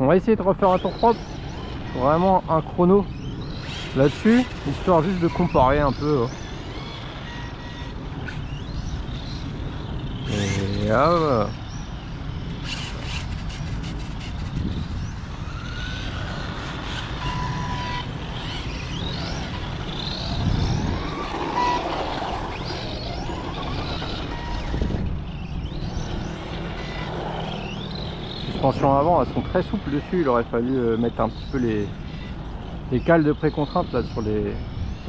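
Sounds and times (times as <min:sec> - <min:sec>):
tyres on asphalt: 0:00.0 - 0:35.0
electric motor whine: 0:00.3 - 0:35.0.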